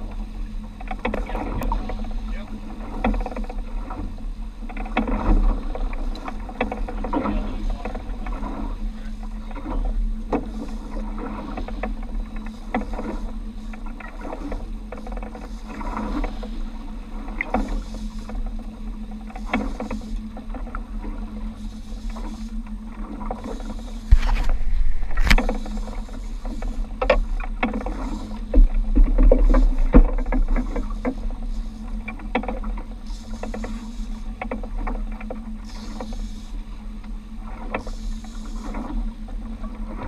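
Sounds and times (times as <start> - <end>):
outboard motor running: 0.0 - 40.0
water slapping against hull: 0.0 - 40.0.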